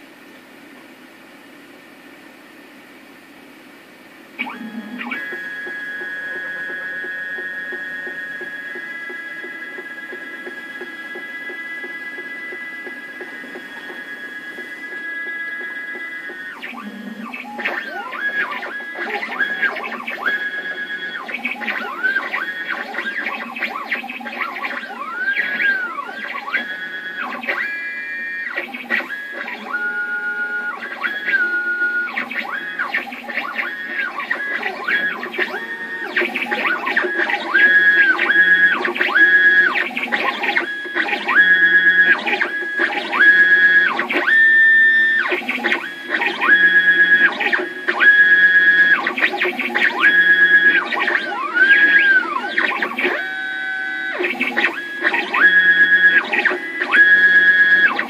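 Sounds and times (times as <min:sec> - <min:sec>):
stepper motors whining: 0:04.4 - 0:58.0.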